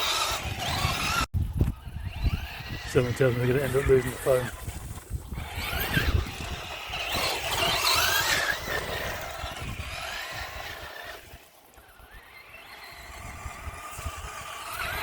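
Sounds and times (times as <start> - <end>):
rc car motor whining: 0.0 - 15.0.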